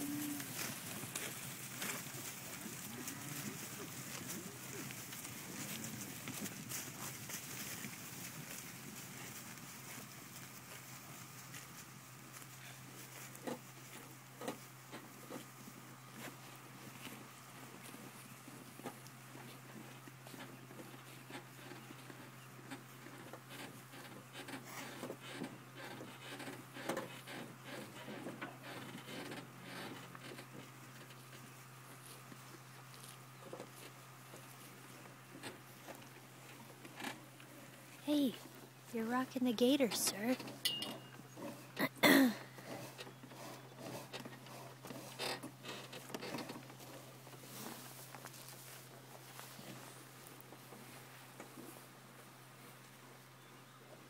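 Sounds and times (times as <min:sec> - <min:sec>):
hoof steps on wet grass: 0:00.0 - 0:25.8, 0:26.4 - 0:41.8, 0:42.4 - 0:53.8
faint low hum: 0:00.0 - 0:54.0
grass rustling: 0:00.0 - 0:54.0.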